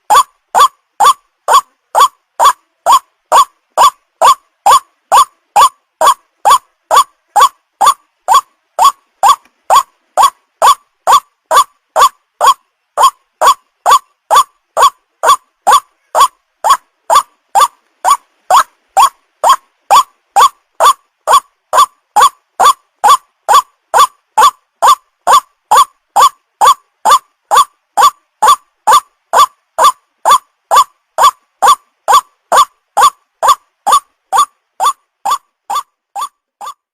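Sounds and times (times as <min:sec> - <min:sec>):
waterhen call: 0:00.0 - 0:36.8.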